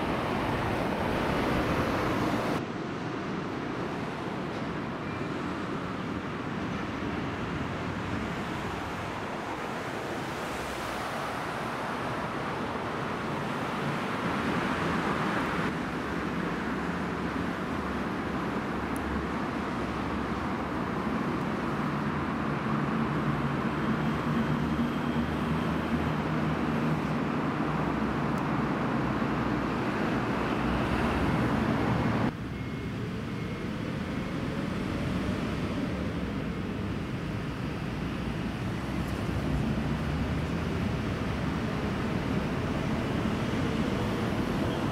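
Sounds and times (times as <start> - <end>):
car road noise in underpass: 0.0 - 44.9.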